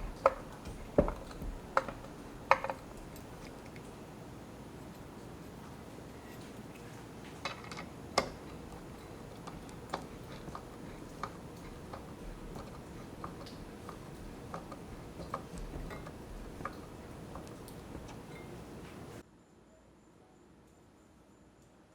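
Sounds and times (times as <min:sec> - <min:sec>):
light clicks and taps: 0:00.0 - 0:04.0, 0:04.8 - 0:19.2
steady low hiss: 0:00.0 - 0:21.9.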